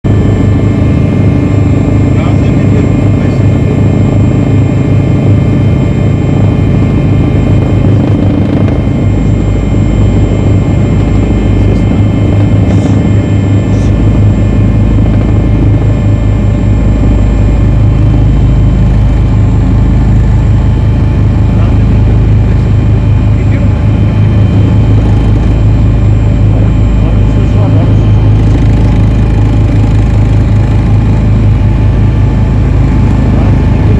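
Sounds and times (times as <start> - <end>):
helicopter rotor chopping: 0.0 - 33.9
low engine hum: 0.1 - 33.9.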